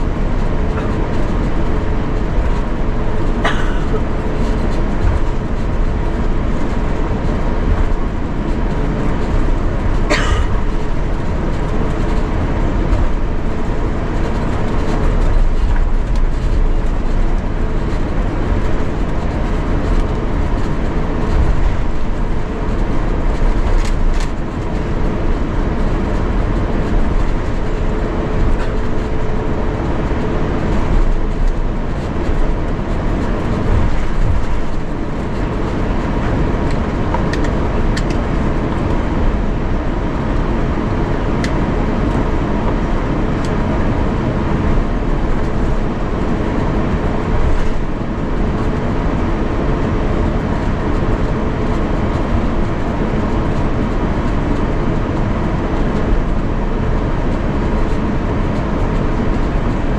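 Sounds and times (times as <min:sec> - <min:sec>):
low aircraft cabin rumble: 0:00.0 - 0:59.9.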